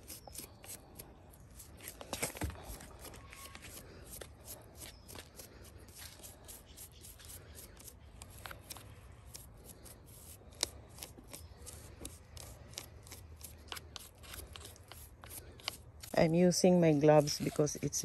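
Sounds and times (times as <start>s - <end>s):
brush scrubbing: 0.0s - 18.0s.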